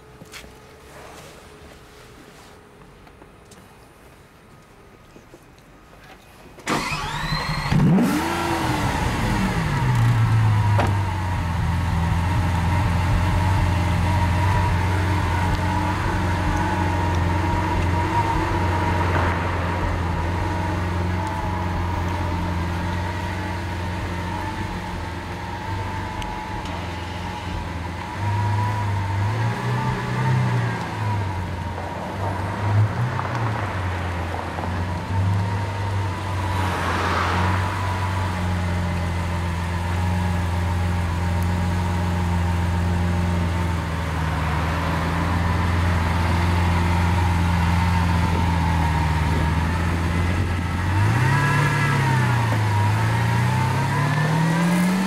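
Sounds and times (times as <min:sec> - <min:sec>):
car engine revving and idling: 0:06.7 - 0:55.0.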